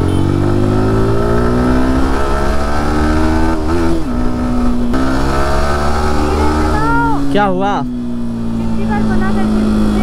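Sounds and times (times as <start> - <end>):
motorcycle engine accelerating: 0.0 - 10.0
wind rumble: 0.4 - 10.0.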